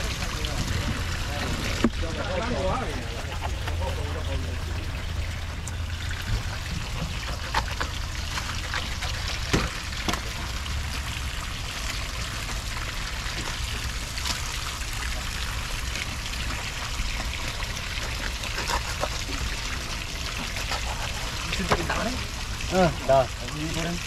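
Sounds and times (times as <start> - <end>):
low steady rumble: 0.0 - 24.0
water pouring and trickling: 0.0 - 24.0.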